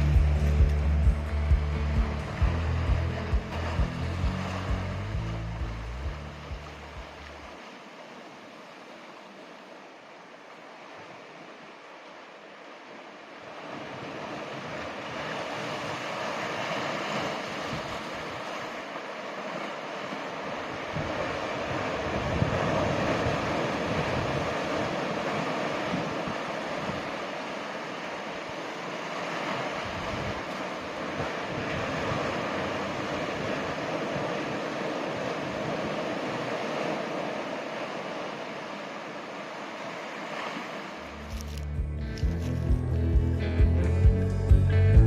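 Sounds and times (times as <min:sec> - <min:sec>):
ocean surf: 0:00.0 - 0:45.0
wind: 0:00.0 - 0:45.0.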